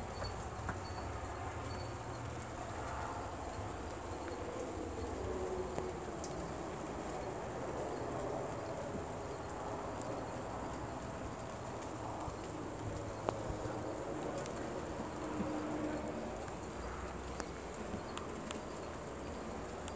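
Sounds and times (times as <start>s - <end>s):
night insects chorus: 0.0s - 19.9s.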